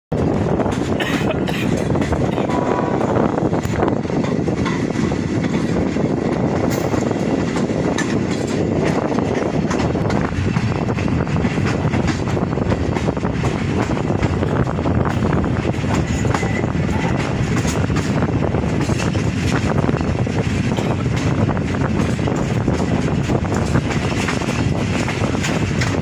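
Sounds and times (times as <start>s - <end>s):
train running noise: 0.1s - 26.0s.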